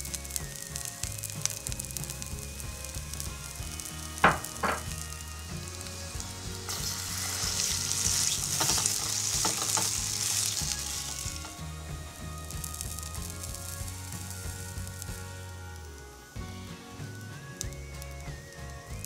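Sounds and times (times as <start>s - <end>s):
short crackles of frying dough: 0.0s - 11.6s, 12.5s - 16.3s
batter sizzling in oil: 0.0s - 19.0s.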